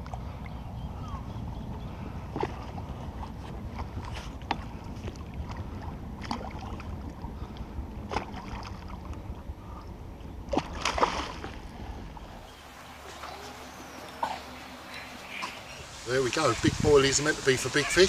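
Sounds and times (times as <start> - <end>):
low rumble of wind and water: 0.0 - 18.0.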